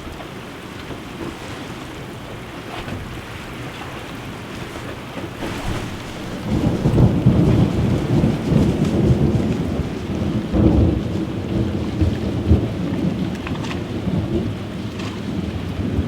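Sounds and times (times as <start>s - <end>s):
steady rain: 0.0s - 16.0s
thunder rumbling: 2.7s - 16.0s.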